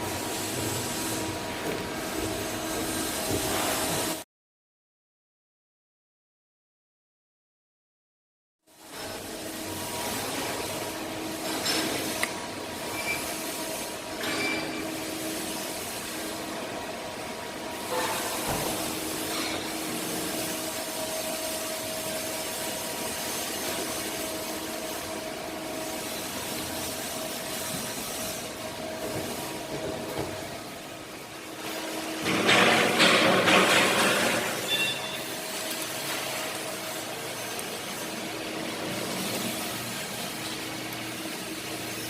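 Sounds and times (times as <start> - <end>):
mechanical workshop noise: 0.0 - 4.2, 8.7 - 42.0.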